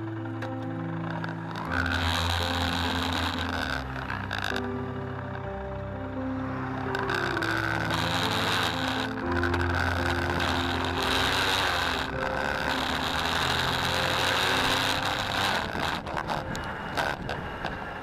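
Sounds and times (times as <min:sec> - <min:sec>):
road and wind noise: 0:00.0 - 0:18.0
two-stroke engine running: 0:00.0 - 0:18.0.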